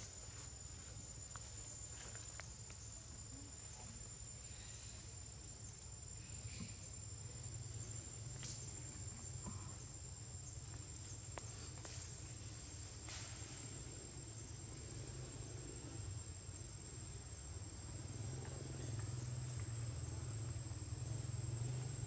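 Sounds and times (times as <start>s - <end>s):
faint ticks and rustles: 0.0s - 22.0s
high-pitched insect drone: 0.0s - 22.0s.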